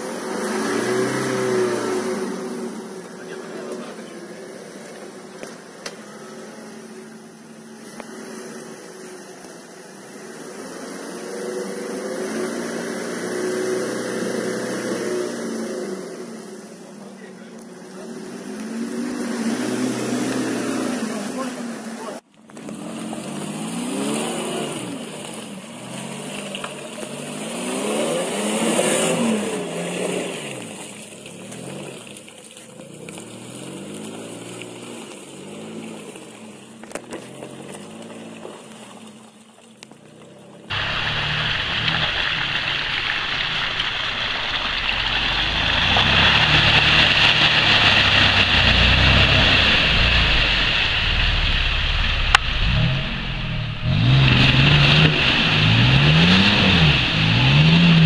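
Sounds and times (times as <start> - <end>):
suv engines revving: 0.0 - 58.0
tyres churning through mud: 0.0 - 58.0.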